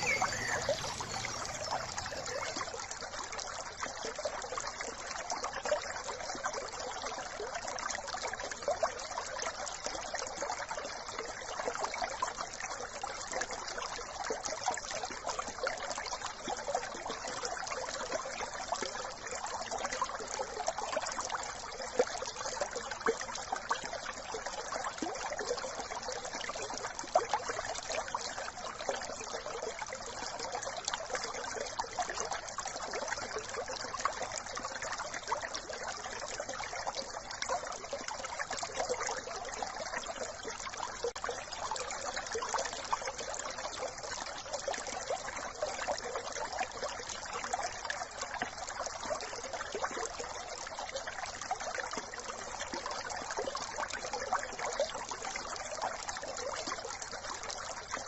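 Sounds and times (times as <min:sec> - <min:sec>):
brook babbling over stones: 0:00.0 - 0:58.0.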